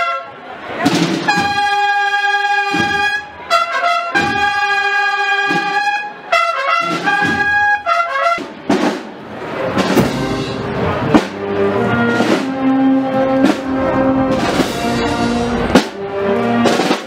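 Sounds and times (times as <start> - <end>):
marching band trumpets playing: 0.0 - 17.0.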